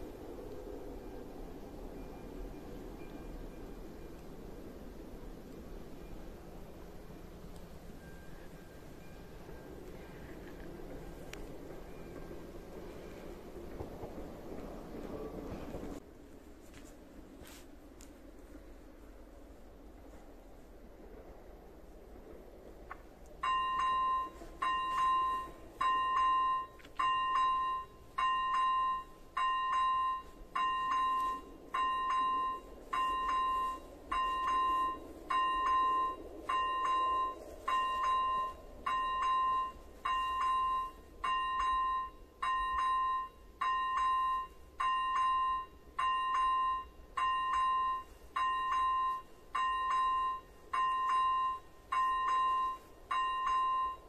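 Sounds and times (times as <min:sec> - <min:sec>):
level crossing warning bell: 0:00.0 - 0:16.0, 0:21.8 - 0:54.0.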